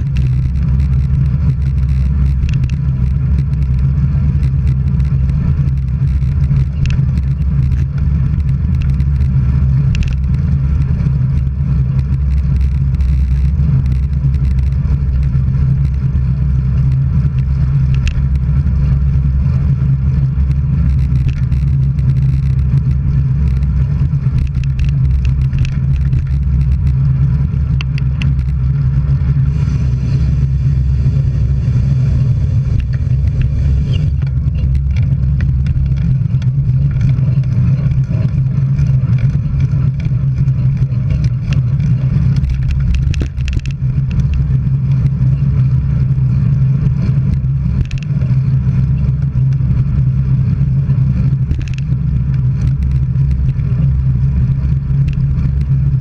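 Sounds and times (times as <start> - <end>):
road and wind rumble: 0.0 - 56.0
small clicks and rattles: 0.0 - 56.0.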